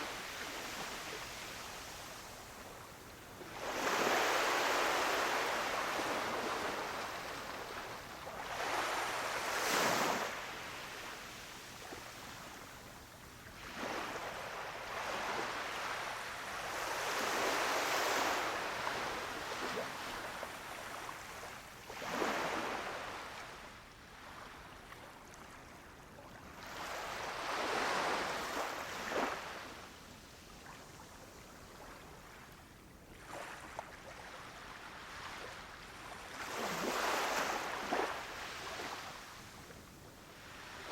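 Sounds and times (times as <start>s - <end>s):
small waves breaking on sand: 0.0s - 40.9s.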